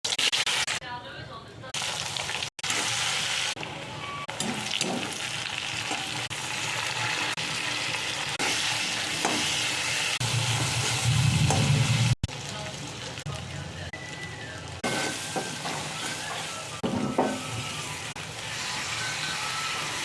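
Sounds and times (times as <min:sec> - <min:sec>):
food sizzling in hot oil: 0:00.0 - 0:00.8, 0:01.8 - 0:20.0.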